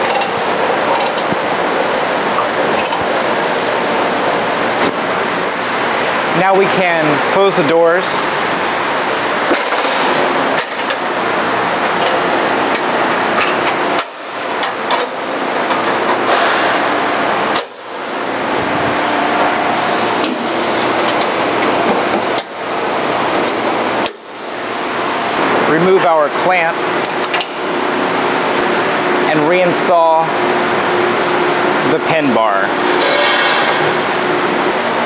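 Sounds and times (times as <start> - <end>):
shop fans rushing: 0.0 - 35.0.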